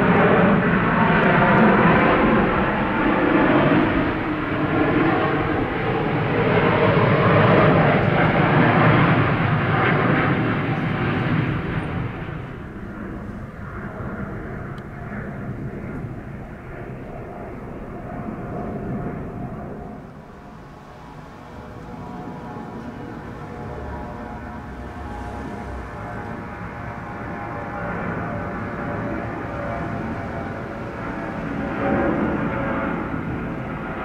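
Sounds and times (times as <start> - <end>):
jet engines at full thrust: 0.0 - 34.0.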